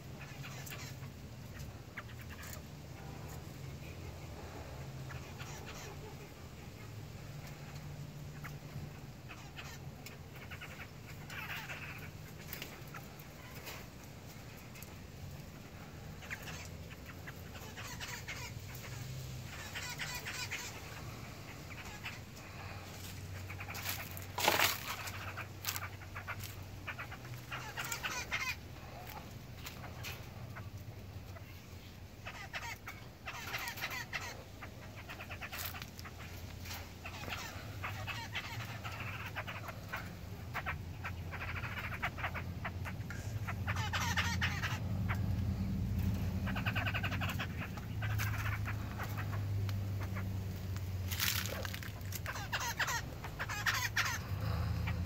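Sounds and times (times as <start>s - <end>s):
bird calling: 0.0s - 55.0s
low steady hum: 0.0s - 55.0s.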